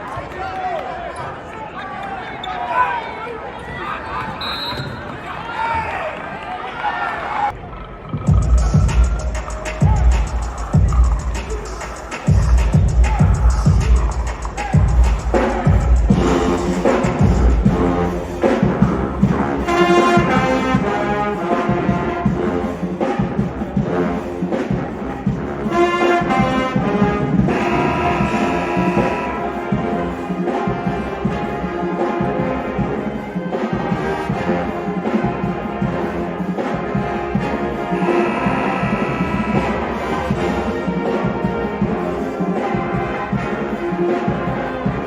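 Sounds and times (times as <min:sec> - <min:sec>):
brass music with held notes: 0:08.7 - 0:45.0.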